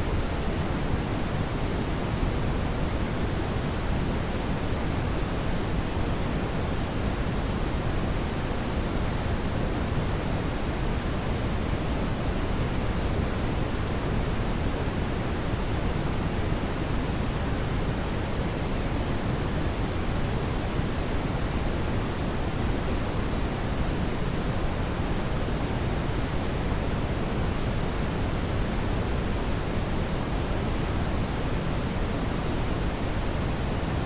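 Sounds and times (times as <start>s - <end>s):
brown noise hiss: 0.0s - 34.0s.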